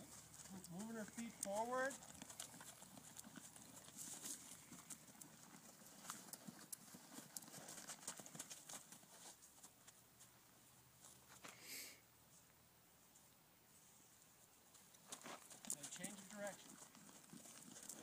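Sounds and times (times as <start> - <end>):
faint hoofbeats on dirt: 0.0 - 11.6, 12.2 - 18.0.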